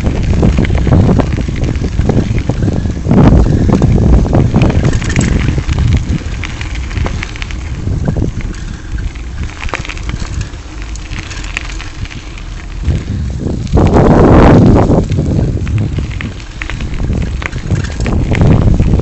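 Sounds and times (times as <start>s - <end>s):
bicycle tyres crunching on gravel: 0.0s - 19.0s
wind buffeting microphone: 0.0s - 19.0s.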